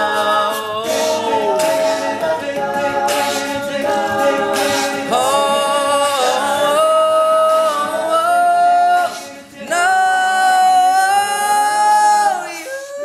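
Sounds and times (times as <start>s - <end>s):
male a cappella group singing: 0.0s - 13.0s.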